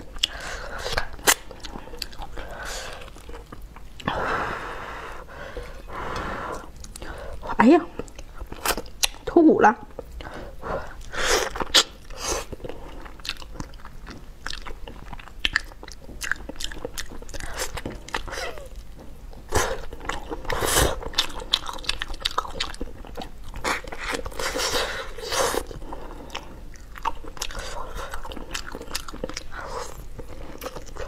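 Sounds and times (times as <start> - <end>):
wet chewing and crunching: 0.0 - 4.1, 5.6 - 31.0.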